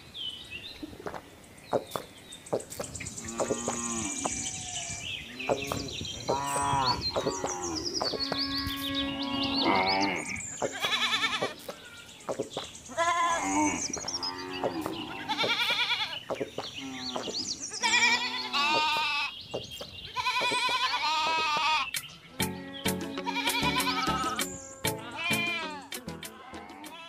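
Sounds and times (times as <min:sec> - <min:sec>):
farm animals bleating: 0:03.2 - 0:12.1, 0:12.9 - 0:19.4, 0:20.1 - 0:27.0.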